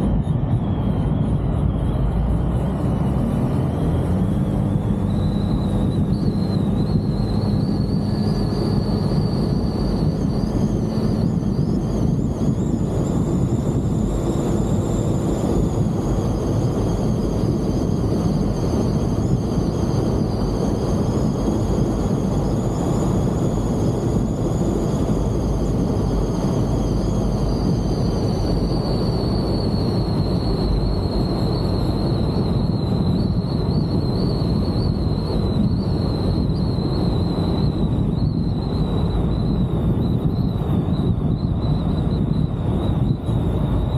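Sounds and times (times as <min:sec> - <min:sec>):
road noise: 0:00.0 - 0:43.9
wind rumble: 0:00.0 - 0:43.9
faint high whistle: 0:03.8 - 0:43.9.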